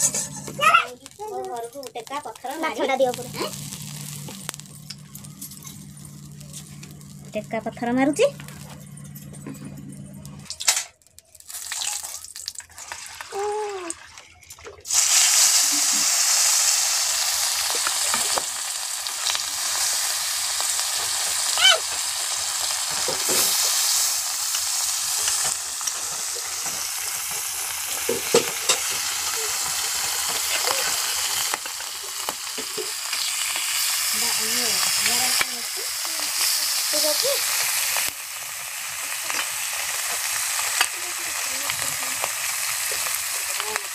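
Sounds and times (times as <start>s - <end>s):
fish sizzling in hot oil: 0.0s - 8.4s, 10.4s - 14.2s, 14.9s - 43.9s.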